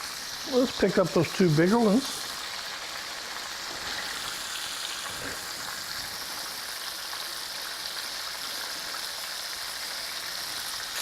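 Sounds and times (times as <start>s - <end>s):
cutlets sizzling in hot oil: 0.0s - 11.0s.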